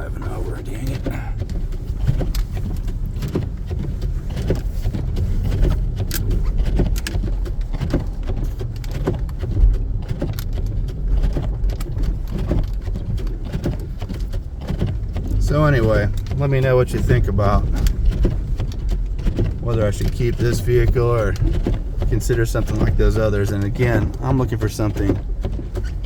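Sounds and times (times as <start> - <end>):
vehicle rumbling off-road: 0.0 - 26.0.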